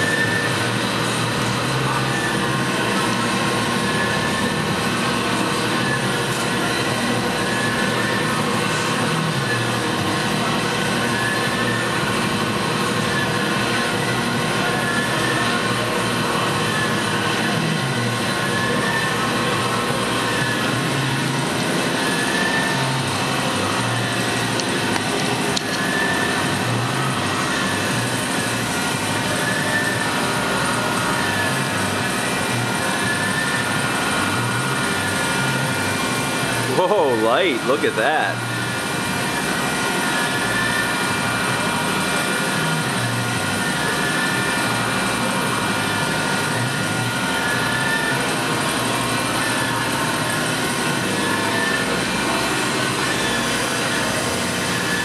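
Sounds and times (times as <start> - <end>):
faint mechanical whine: 0.0 - 55.0
metal shaper machine running: 0.0 - 55.0.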